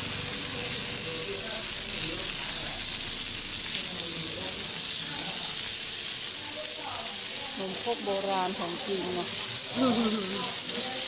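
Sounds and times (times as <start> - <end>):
batter sizzling in a pan: 0.0 - 11.0.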